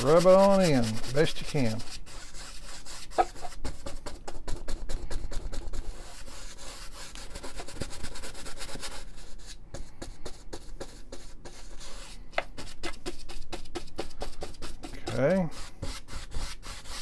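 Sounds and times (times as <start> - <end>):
brush scrubbing paint on canvas: 0.0 - 17.0.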